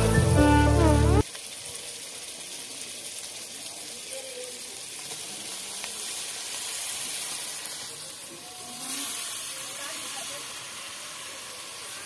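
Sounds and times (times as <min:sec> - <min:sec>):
chicken frying in oil: 0:01.2 - 0:12.0.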